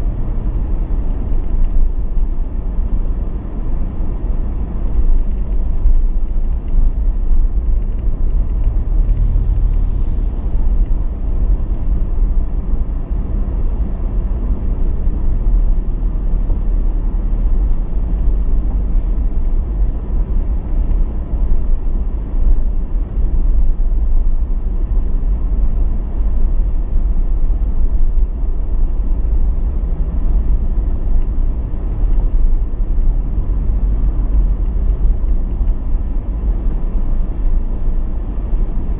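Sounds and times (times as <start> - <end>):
car driving slowly: 0.0 - 38.9.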